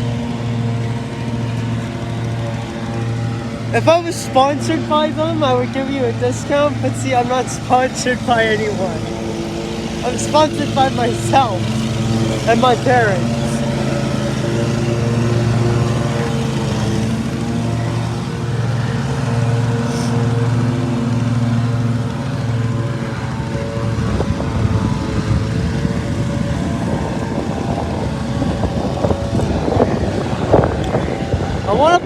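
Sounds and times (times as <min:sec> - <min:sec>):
lawn tractor engine humming: 0:00.0 - 0:32.0.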